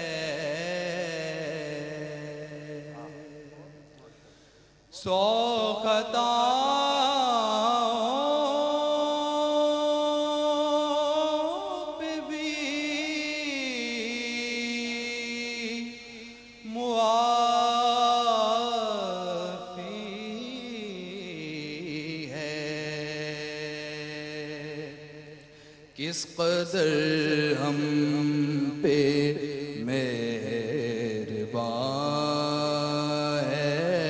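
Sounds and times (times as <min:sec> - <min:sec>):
man singing into a microphone: 0:00.0 - 0:04.0, 0:04.9 - 0:34.0.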